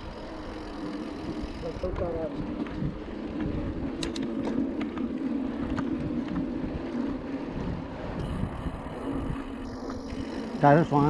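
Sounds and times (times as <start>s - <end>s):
bike rattling over rough track: 0.0s - 11.0s
wind on microphone: 1.4s - 10.6s.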